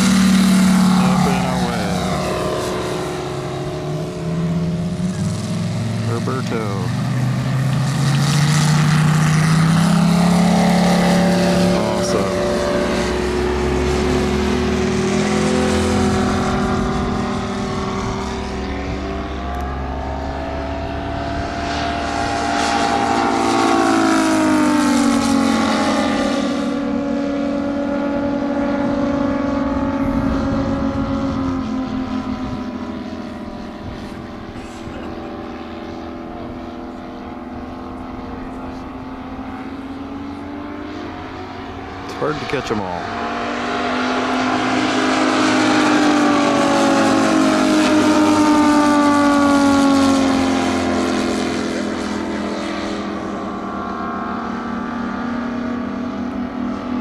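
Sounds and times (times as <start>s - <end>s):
model plane radial engine: 0.0s - 57.0s.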